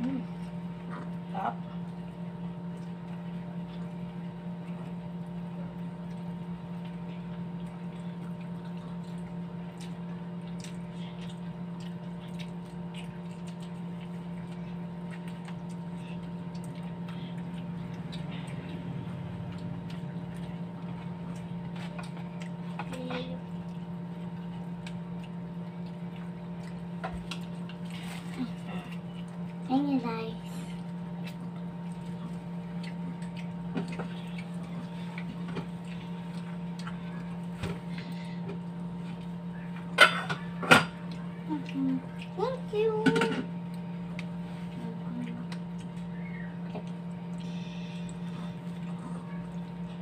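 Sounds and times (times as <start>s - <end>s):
chewing: 0.0s - 29.7s, 30.4s - 42.9s, 43.6s - 50.0s
electrical hum: 0.0s - 50.0s.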